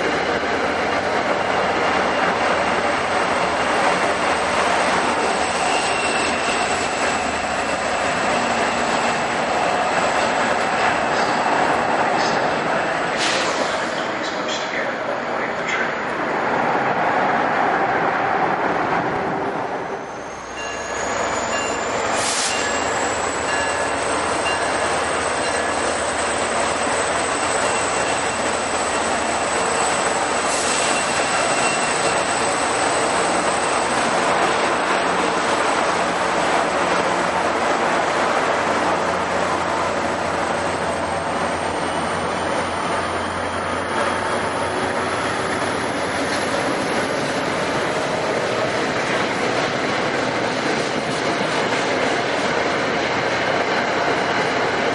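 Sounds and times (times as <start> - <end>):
train wheels rushing on rail: 0.0 - 54.9.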